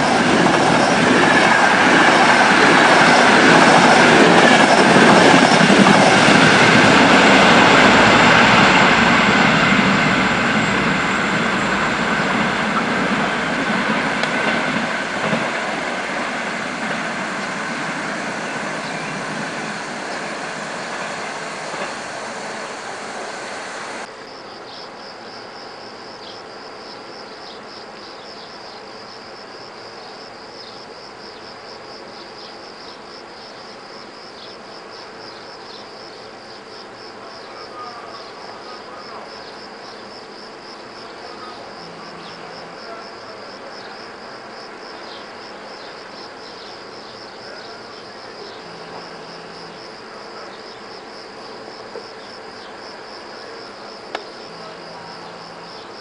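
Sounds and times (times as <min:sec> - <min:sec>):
insects chirring: 0:00.0 - 0:56.0
railway train noise: 0:00.0 - 0:56.0.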